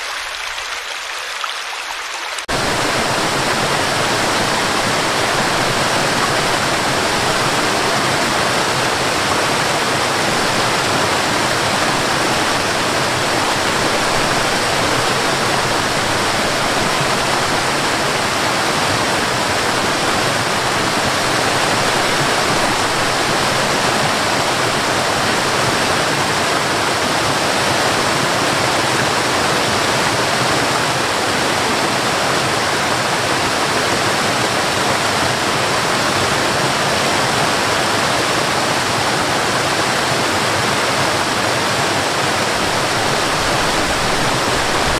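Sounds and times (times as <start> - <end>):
water rushing over rocks: 0.0 - 44.9.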